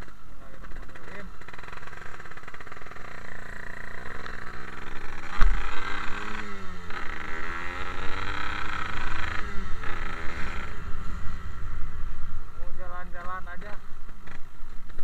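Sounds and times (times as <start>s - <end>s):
two-stroke motorcycle engine: 0.0s - 15.0s.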